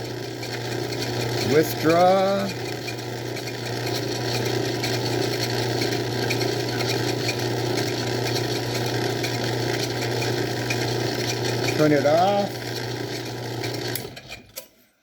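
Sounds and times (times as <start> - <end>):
lathe motor hum: 0.0 - 14.5.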